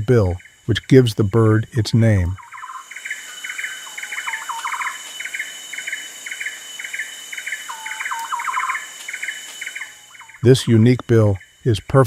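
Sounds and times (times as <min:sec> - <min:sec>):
bird chirping: 0:00.0 - 0:11.9
high-pitched insect drone: 0:00.0 - 0:12.0.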